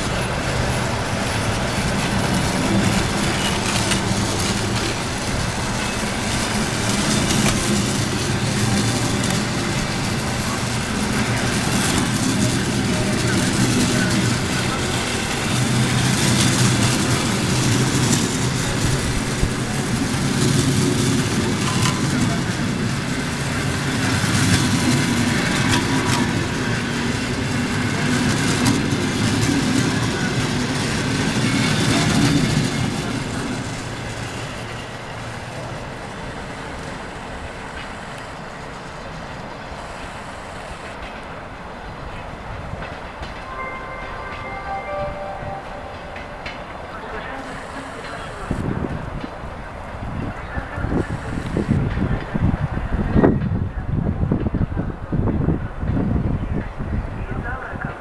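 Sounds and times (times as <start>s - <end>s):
train carriages rolling past: 0.0s - 58.0s.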